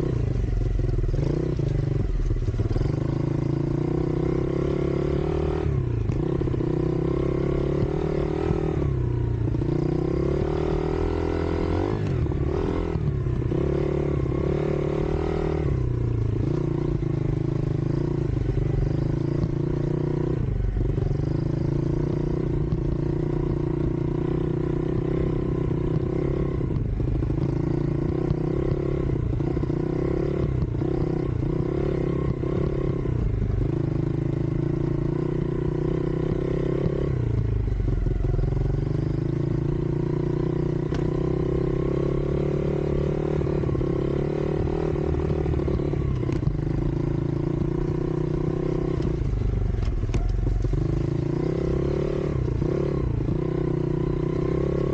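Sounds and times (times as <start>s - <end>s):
off-road motorbike engine revving: 0.0s - 54.9s.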